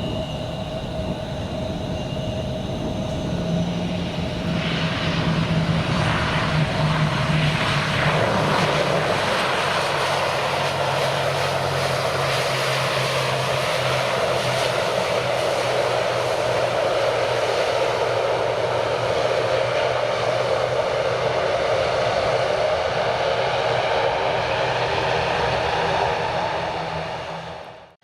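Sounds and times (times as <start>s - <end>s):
airliner engines running: 0.0s - 28.0s.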